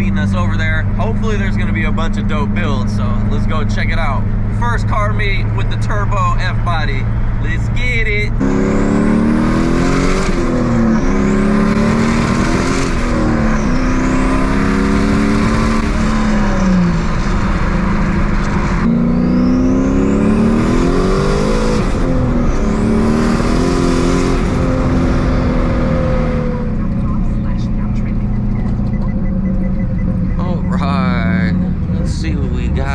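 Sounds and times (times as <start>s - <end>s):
car engine accelerating hard: 0.0s - 32.9s.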